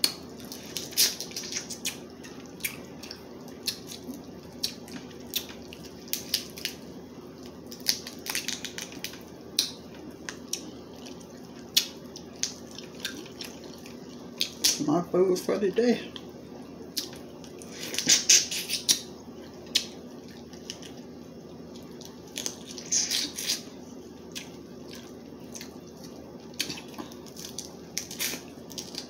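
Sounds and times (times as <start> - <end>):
wet chewing: 0.0 - 14.9, 16.9 - 21.1, 21.7 - 29.0
low steady hum: 0.0 - 29.0.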